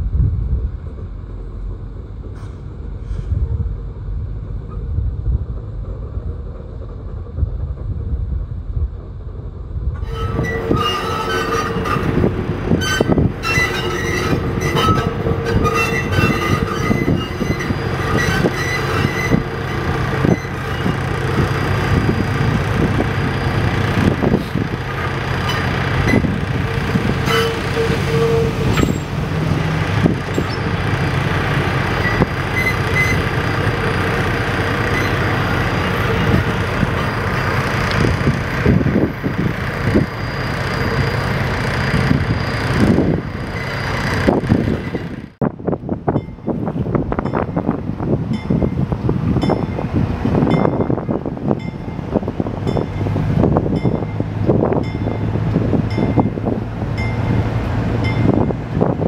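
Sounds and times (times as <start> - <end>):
diesel engines running: 0.0 - 59.0
wheels clicking over rail joints: 9.9 - 59.0
wheels squealing on rails: 10.0 - 45.4, 46.1 - 59.0.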